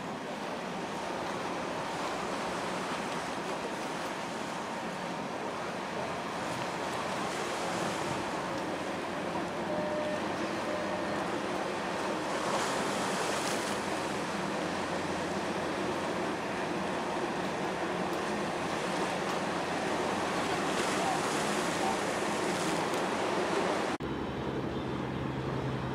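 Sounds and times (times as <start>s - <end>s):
harbour water: 0.0s - 25.9s.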